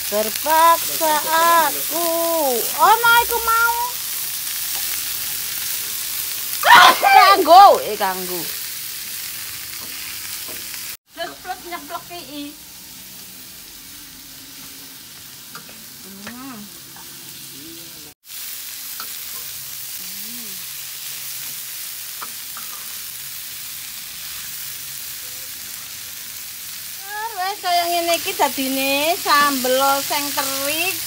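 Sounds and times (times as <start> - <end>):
food sizzling in a wok: 0.0 - 31.0.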